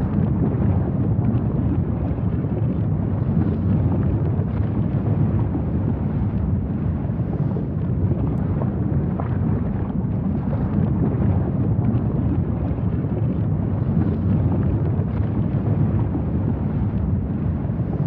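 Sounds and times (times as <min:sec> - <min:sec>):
low volcanic rumble: 0:00.0 - 0:18.0
wind buffeting microphone: 0:00.0 - 0:18.0.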